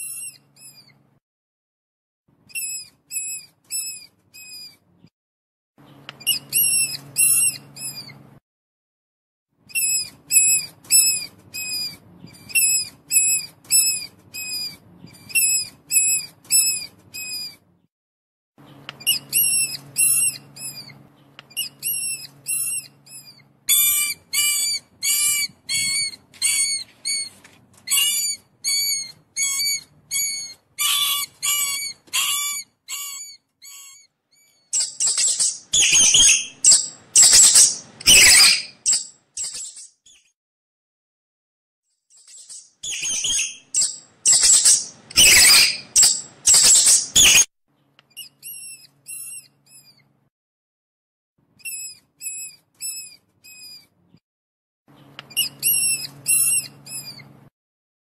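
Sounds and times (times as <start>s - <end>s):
mouse squeaking: 0.0s - 1.0s, 2.5s - 4.8s, 5.9s - 8.2s, 9.7s - 17.6s, 18.7s - 40.3s, 42.1s - 47.5s, 48.1s - 50.1s, 51.6s - 53.9s, 55.2s - 57.3s.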